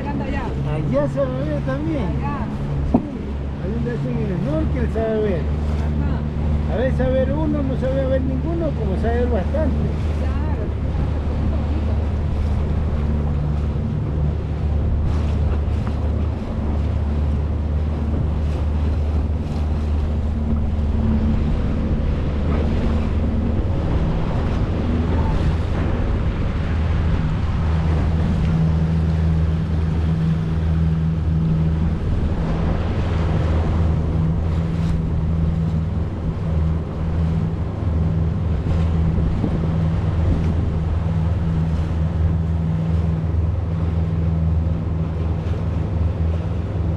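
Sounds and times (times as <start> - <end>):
outboard motor humming: 0.0 - 46.9
water rushing past hull: 0.0 - 46.9
wind on microphone: 0.0 - 46.9.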